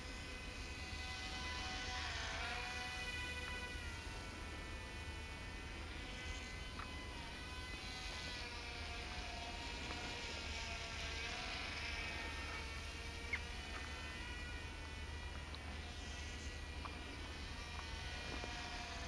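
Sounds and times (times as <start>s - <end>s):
toy plane propellers buzzing: 0.0s - 19.0s.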